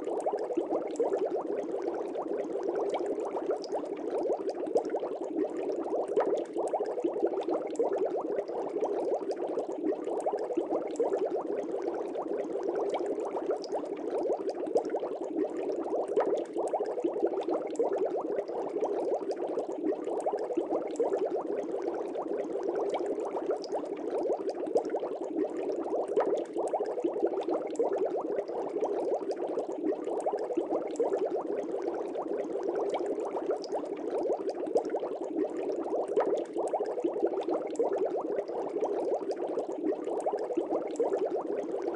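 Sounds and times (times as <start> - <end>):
water bubbling: 0.0 - 41.9.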